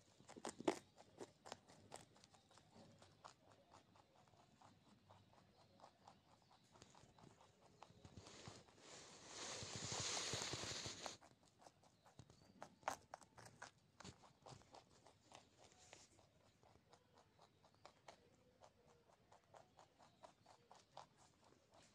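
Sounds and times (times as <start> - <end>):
rabbit crunching a carrot: 0.0 - 21.9.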